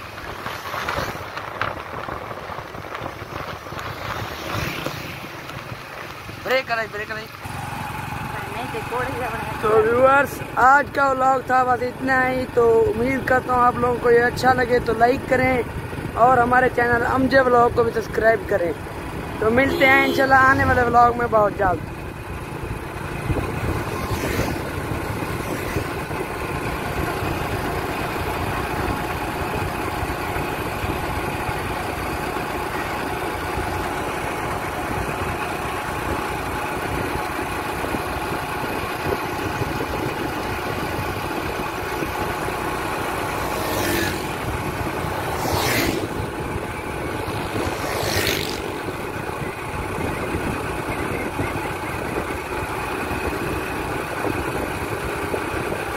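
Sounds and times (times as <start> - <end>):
road and wind noise: 0.0 - 55.9
vehicle engine cruising: 0.0 - 55.9.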